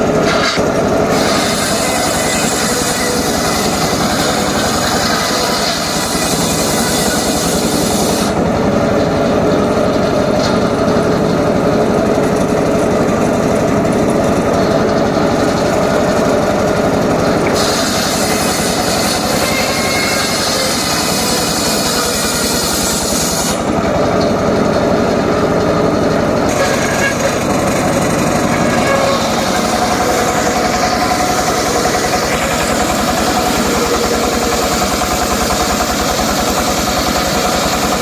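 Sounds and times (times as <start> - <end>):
circular saw cutting wood: 0.0 - 11.2, 14.5 - 38.0.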